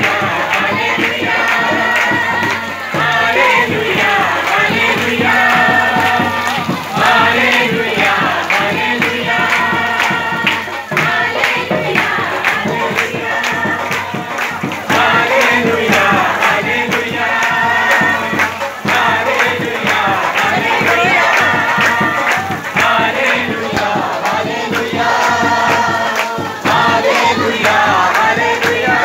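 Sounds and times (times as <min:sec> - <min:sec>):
congregation singing: 0:00.0 - 0:29.0
quick steady beat: 0:00.0 - 0:29.0.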